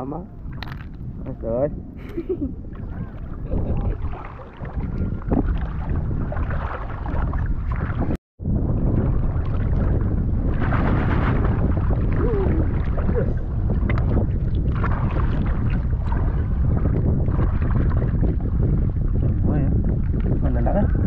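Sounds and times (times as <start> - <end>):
wind buffeting microphone: 0.0 - 21.0
small water splashes: 0.4 - 1.1, 2.3 - 8.2, 9.1 - 20.6.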